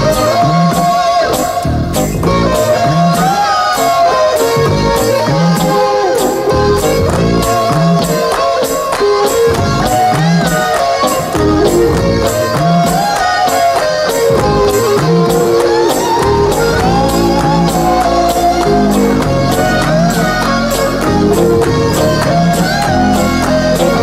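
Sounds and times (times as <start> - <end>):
instrumental music with percussion: 0.0 - 24.0.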